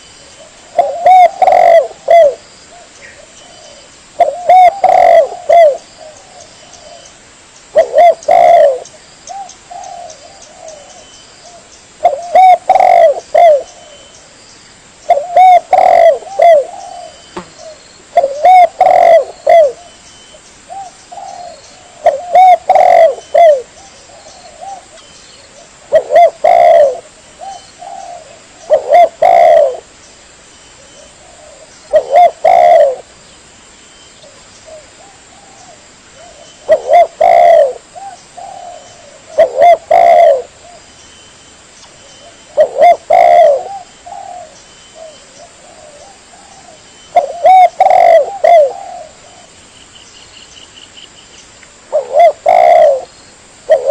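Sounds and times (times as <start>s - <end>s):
dove cooing: 0.0s - 7.1s, 7.7s - 14.1s, 15.0s - 20.0s, 20.7s - 29.9s, 30.9s - 33.1s, 34.2s - 40.9s, 42.2s - 49.6s, 51.9s - 53.1s, 53.7s - 53.9s.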